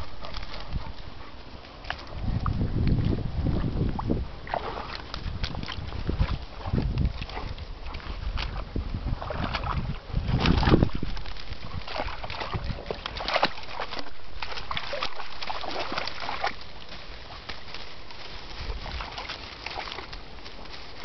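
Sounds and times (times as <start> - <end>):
dogs splashing through water: 0.0 - 21.0.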